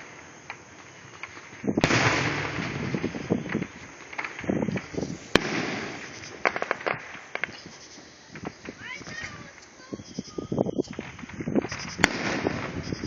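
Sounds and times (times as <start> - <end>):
firework bang: 0.0 - 13.0
firework crackling pops: 0.0 - 13.0.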